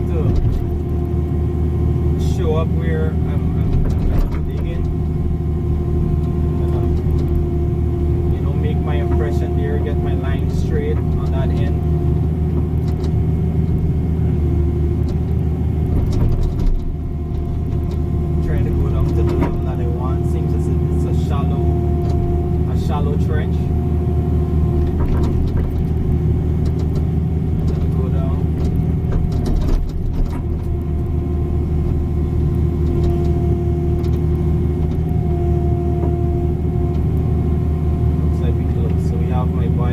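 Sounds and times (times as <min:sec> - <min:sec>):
excavator engine running: 0:00.0 - 0:39.9
steady whine: 0:00.0 - 0:39.9.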